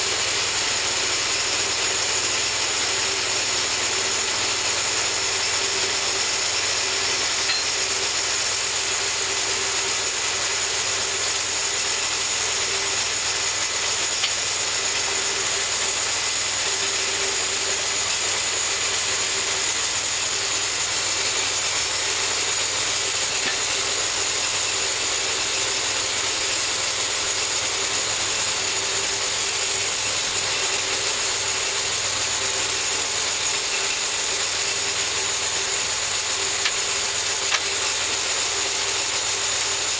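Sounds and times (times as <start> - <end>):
bandsaw mill sawing log: 0.0 - 39.9.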